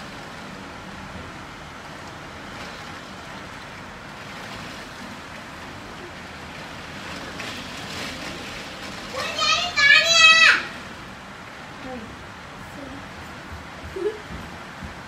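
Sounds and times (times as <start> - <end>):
heavy rain: 0.0 - 15.0
rain streaming on window glass: 0.0 - 15.0.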